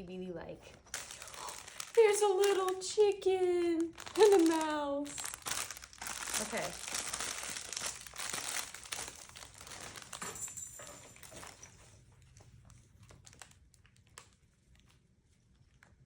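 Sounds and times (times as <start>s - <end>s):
plastic packaging crinkling: 0.5s - 11.9s, 12.8s - 14.4s.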